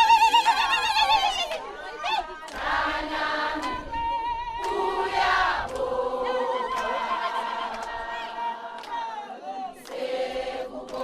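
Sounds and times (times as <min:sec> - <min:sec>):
choir singing: 0:01.6 - 0:11.0.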